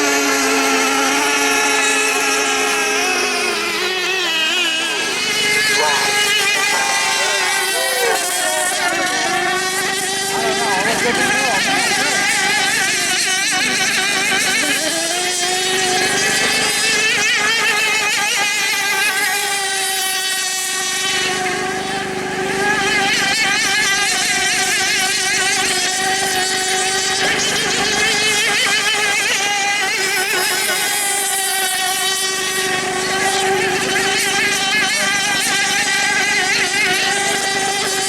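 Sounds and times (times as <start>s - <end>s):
model boat motors whining: 0.0s - 38.0s.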